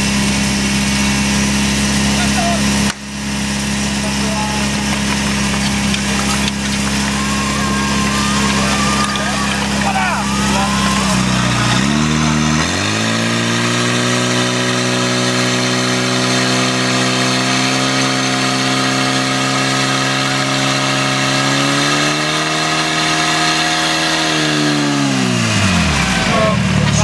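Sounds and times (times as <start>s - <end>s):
pump engine revving: 0.0s - 27.0s.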